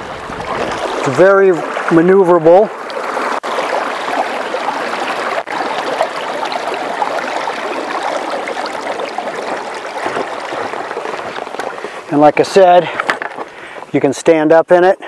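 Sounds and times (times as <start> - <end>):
boat wake water rushing: 0.0 - 14.2.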